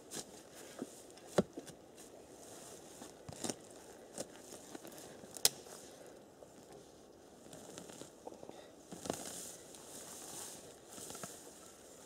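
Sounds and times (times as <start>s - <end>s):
digging in soil and roots: 0.0s - 12.0s.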